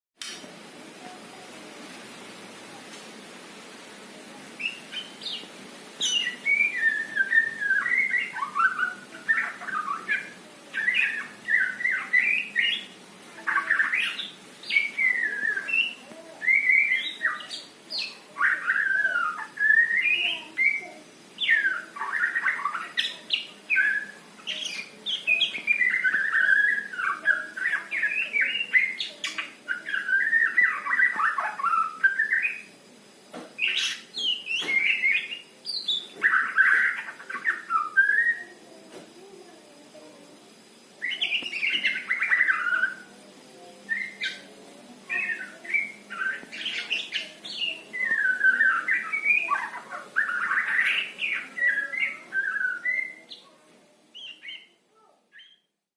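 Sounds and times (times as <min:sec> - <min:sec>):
songbird singing whistled phrases: 0:04.6 - 0:32.8, 0:33.6 - 0:38.6, 0:41.0 - 0:43.1, 0:43.9 - 0:53.5, 0:54.1 - 0:55.8.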